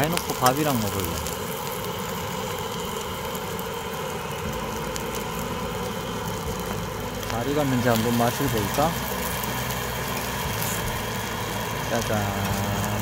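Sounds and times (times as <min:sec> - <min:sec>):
fish frying in oil: 0:00.0 - 0:13.0
gas burner rushing: 0:00.0 - 0:13.0.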